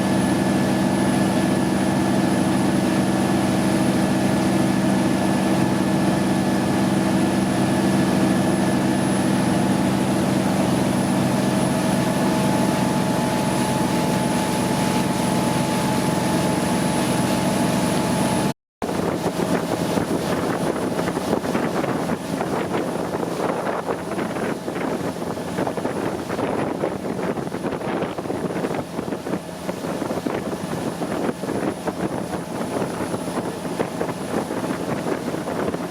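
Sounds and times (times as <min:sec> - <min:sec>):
motorboat engine drone: 0:00.0 - 0:35.9
rush of wind and water: 0:00.0 - 0:35.9.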